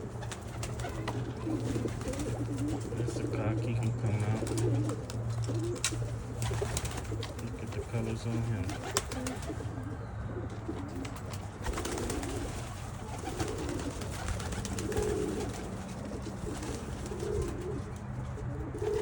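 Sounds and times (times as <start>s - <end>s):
pigeons cooing: 0.0s - 19.0s
faint clicks of birds moving: 0.1s - 19.0s.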